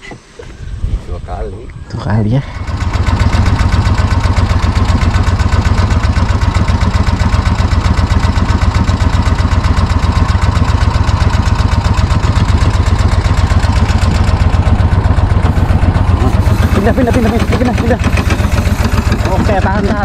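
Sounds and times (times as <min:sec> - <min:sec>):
boat motor running: 0:02.5 - 0:20.0.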